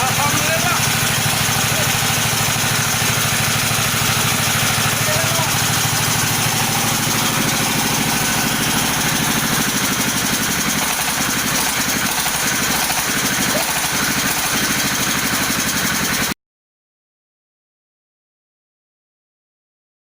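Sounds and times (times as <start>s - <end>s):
pulsing machine drone: 0.0s - 16.3s.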